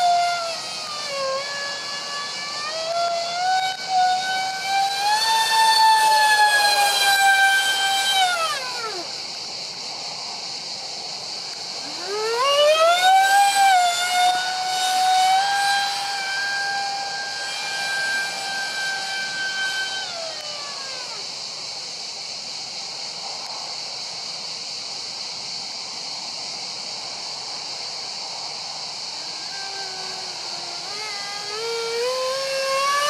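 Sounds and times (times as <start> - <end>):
electric ducted fans screeching: 0.0 - 21.9, 28.0 - 33.0
rushing hiss: 0.0 - 33.0.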